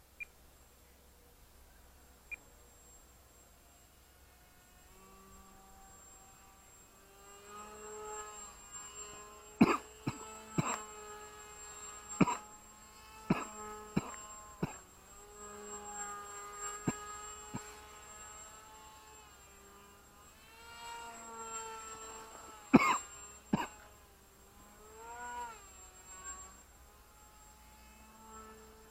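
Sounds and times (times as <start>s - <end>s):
model plane motor humming: 1.2s - 28.9s.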